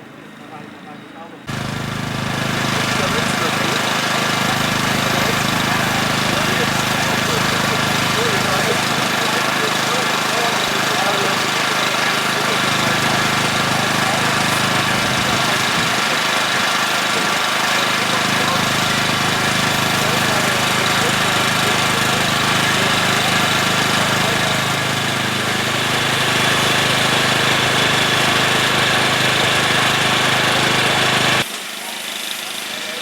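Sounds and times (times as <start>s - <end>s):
engine running steadily: 1.4s - 32.0s.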